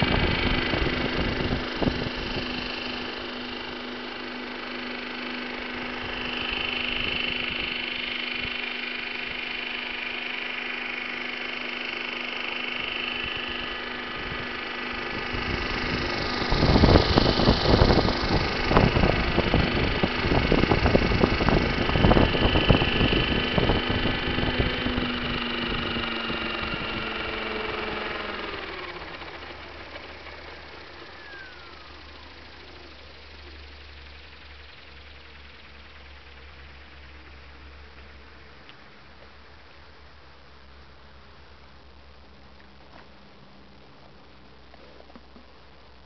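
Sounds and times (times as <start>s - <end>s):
helicopter rotor: 0.0s - 46.0s
rc helicopter motor whine: 0.0s - 46.0s.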